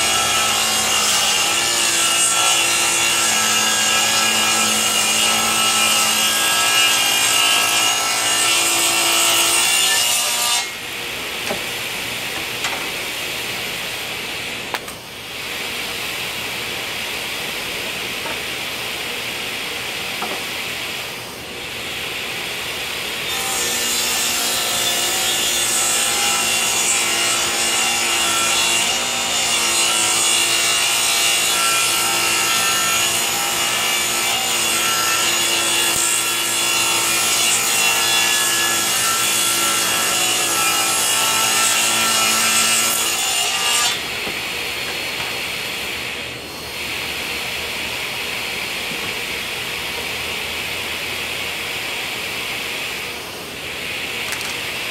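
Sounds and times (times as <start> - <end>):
table saw cutting wood: 0.0 - 54.9.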